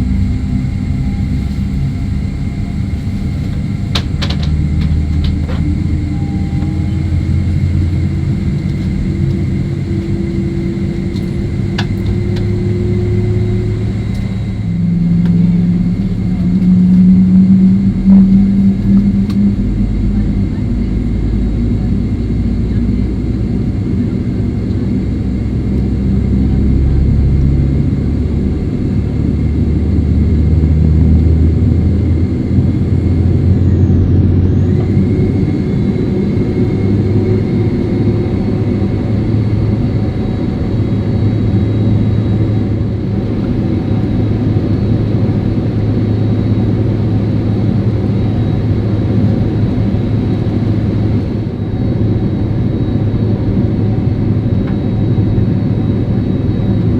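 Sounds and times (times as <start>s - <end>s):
jet engines heard from cabin: 0.0s - 56.9s.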